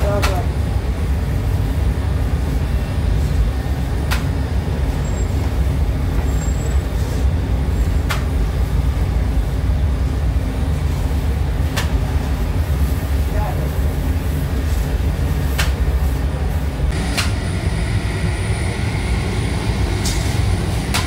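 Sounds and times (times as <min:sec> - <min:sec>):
oven and machinery rumble: 0:00.0 - 0:21.0.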